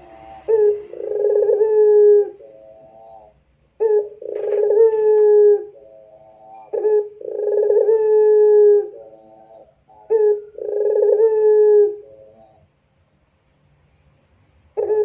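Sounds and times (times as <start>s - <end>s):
dove cooing: 0.0s - 12.7s, 14.8s - 15.0s.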